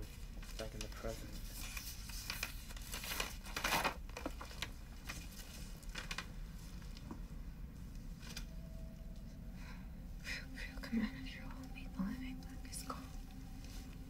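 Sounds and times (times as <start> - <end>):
rustling and crinkling: 0.0 - 9.3, 11.2 - 14.0.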